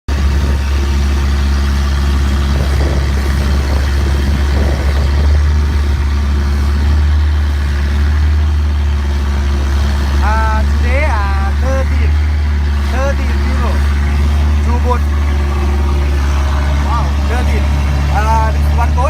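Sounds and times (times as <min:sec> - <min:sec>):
boat engine droning: 0:00.1 - 0:19.0.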